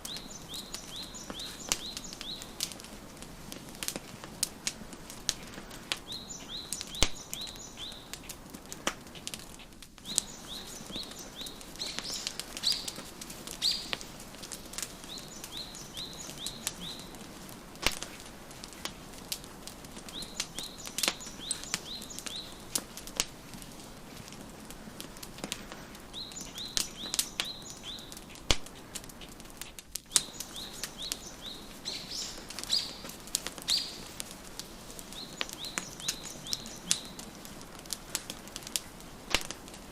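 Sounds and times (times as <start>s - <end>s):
songbirds chirping: 0.0s - 39.9s
wood fire crackling and popping: 0.0s - 39.9s.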